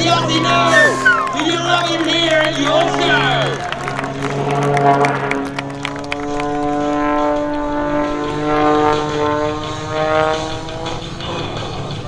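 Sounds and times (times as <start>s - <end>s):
propeller plane droning in flight: 0.0s - 2.3s, 3.8s - 12.0s.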